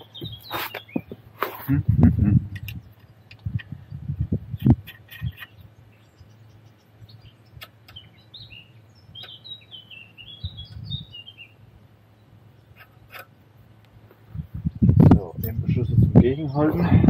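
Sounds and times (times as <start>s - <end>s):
small bird singing: 0.0s - 1.3s, 2.6s - 13.3s, 14.4s - 17.0s.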